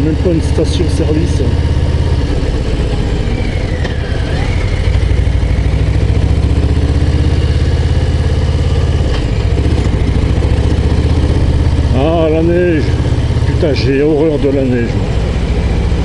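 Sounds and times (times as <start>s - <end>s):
motorcycle engine under load: 0.0s - 16.0s.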